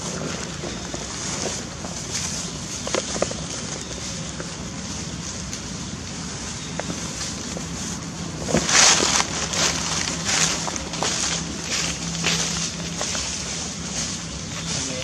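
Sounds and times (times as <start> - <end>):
dry leaves rustling and crackling: 0.0 - 15.0
low hum: 0.0 - 15.0.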